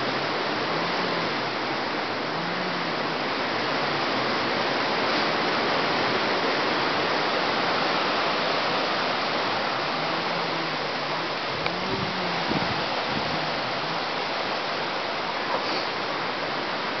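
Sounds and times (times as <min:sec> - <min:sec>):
storm wind through tree leaves: 0:00.0 - 0:17.0.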